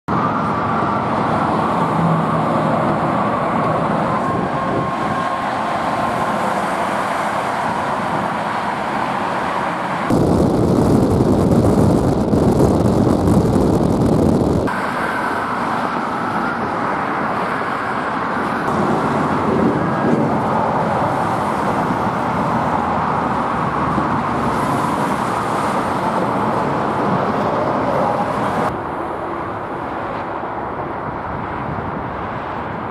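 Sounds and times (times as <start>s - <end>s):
deep traffic rumble: 0.1s - 32.9s
highway traffic rushing hum: 0.1s - 32.9s.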